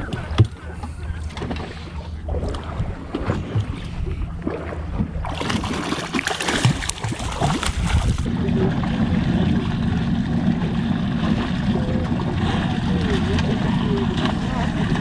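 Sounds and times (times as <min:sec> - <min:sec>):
steady low rumble: 0:00.0 - 0:15.0
water splashing and gurgling: 0:00.0 - 0:15.0.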